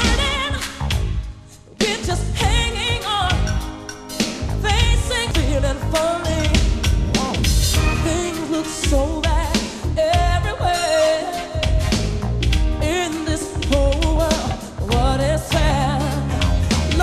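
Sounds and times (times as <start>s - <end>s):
steady drum beat: 0.0s - 17.0s
woman singing pop song: 0.0s - 17.0s.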